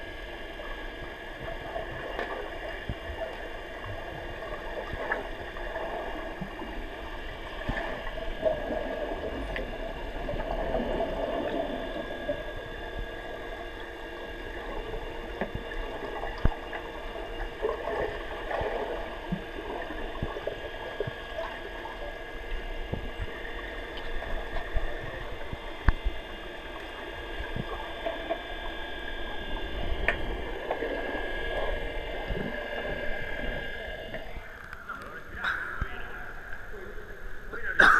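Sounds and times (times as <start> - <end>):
water swishing: 0.0 - 37.6
muffled underwater hum: 0.0 - 37.9.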